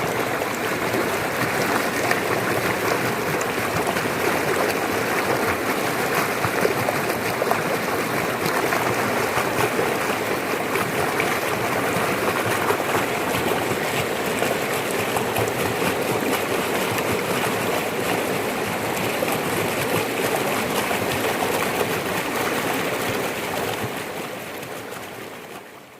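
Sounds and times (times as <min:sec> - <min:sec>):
floodwater rushing: 0:00.0 - 0:25.6.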